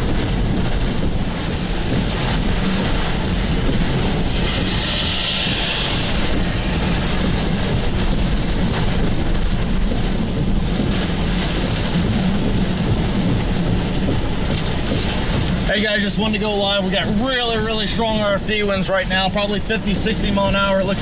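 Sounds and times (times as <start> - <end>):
deep low rumble: 0.0 - 20.9
rain and wind battering car: 0.0 - 21.0.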